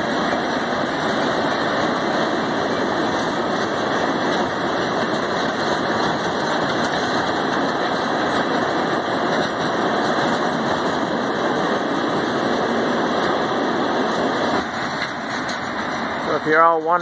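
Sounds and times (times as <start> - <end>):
steel wheels rumbling on track: 0.0 - 17.0.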